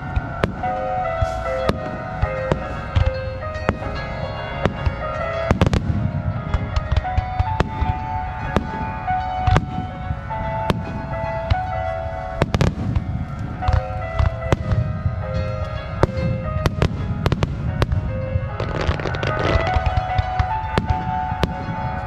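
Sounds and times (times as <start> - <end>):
fireworks bangs and crackling: 0.0 - 22.0
music with held notes: 0.0 - 22.0.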